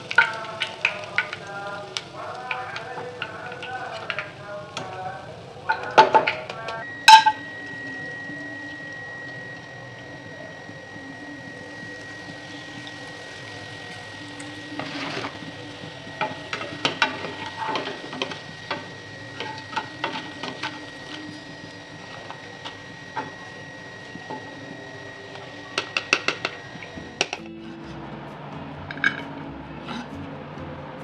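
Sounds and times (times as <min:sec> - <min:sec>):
utensils clinking against pan: 0:00.0 - 0:24.7, 0:25.3 - 0:27.5, 0:28.9 - 0:30.1
oil sizzling in a wok: 0:00.0 - 0:30.2.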